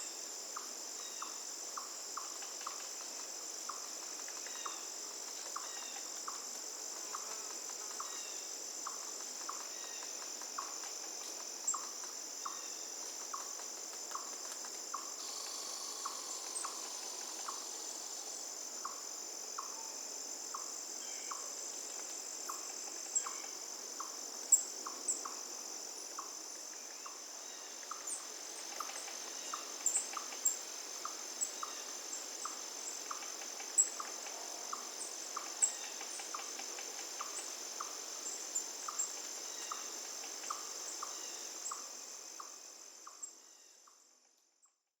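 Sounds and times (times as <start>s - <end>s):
high-pitched cricket trill: 0.0s - 5.0s, 5.6s - 44.2s
sharp loud insect chirps: 3.7s - 6.5s, 7.1s - 44.8s
short lower insect chirp: 8.0s - 44.9s.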